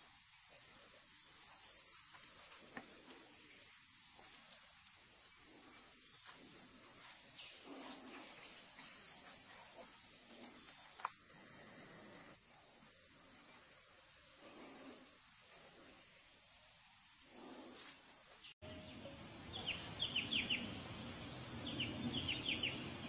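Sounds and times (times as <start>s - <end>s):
insects chirring drone: 0.0s - 23.0s.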